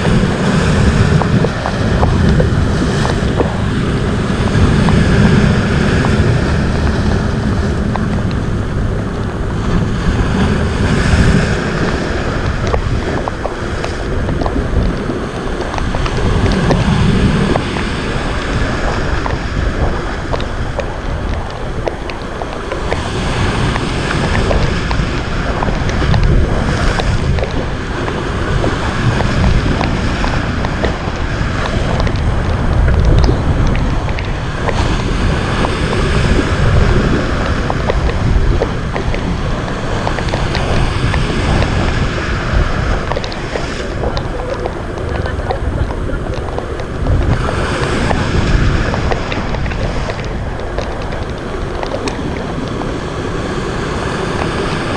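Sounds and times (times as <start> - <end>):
heavy sea surf: 0.0 - 54.9
wind buffeting microphone: 0.0 - 54.9.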